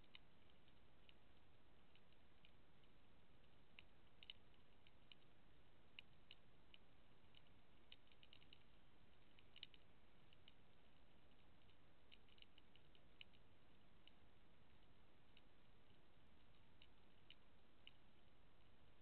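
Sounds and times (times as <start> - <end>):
faint clicks: 0.0 - 19.0
faint hiss: 0.0 - 19.0.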